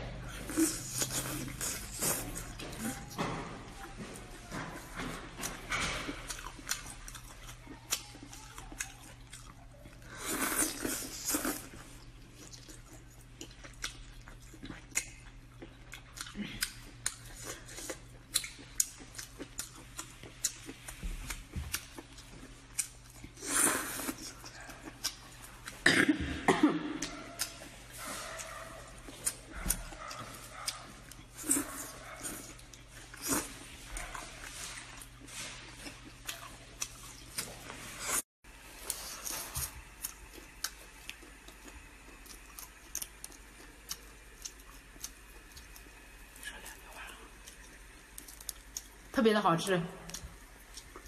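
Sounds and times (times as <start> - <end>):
chewing and lip smacks: 5.4 - 25.8, 27.0 - 37.6, 38.8 - 49.0, 50.1 - 51.0.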